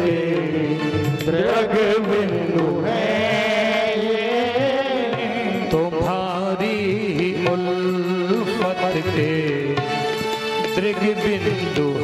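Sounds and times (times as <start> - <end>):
man singing: 0.0 - 12.0
musical accompaniment: 0.0 - 12.0.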